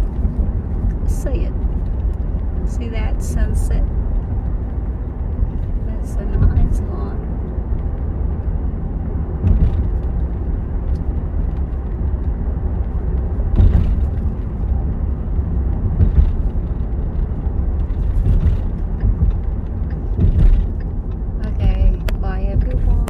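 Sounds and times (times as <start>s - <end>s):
car bumps: 0.0s - 23.0s
car cabin rumble: 0.0s - 23.0s.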